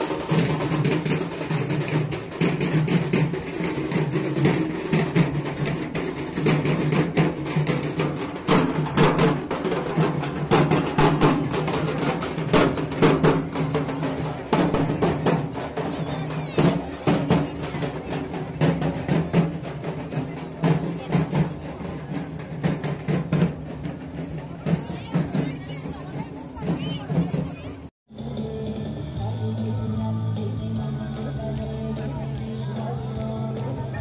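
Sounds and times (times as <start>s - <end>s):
barrel drums beaten rapidly: 0.0s - 27.9s.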